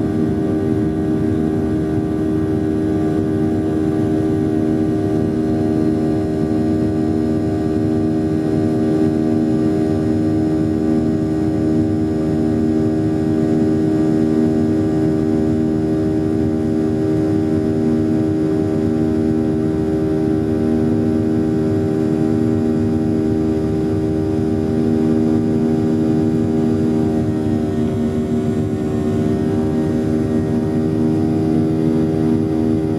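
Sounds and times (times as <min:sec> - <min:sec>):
jet engines humming in cabin: 0:00.0 - 0:32.9.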